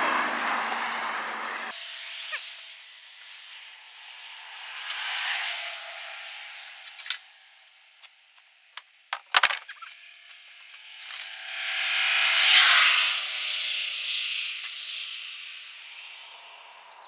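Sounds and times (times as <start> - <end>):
vehicle passing on road: 0.0 - 8.7, 10.0 - 17.0.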